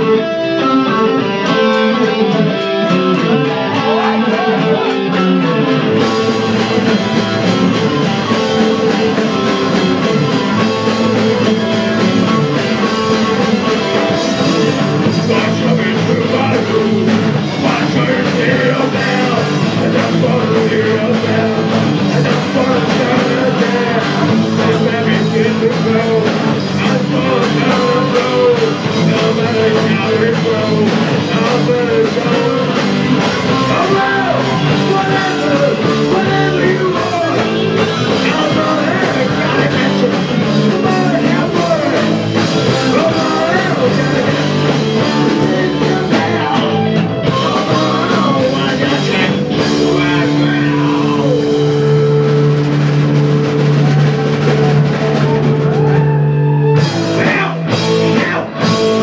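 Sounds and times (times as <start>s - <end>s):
person singing: 0.0s - 52.4s, 53.7s - 59.0s
live rock band playing: 0.0s - 59.0s.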